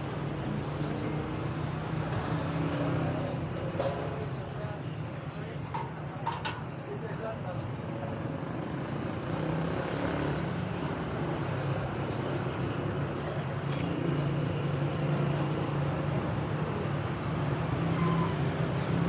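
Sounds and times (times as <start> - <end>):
busy street noise: 0.0 - 19.0.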